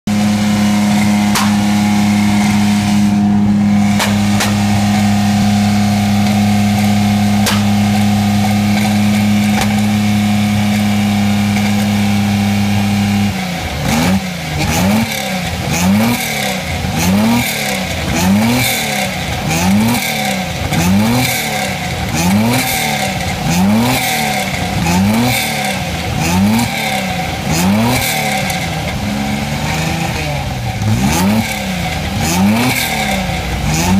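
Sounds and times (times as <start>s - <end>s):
car engine revving: 0.0s - 33.9s
exhaust pops: 0.1s - 33.9s.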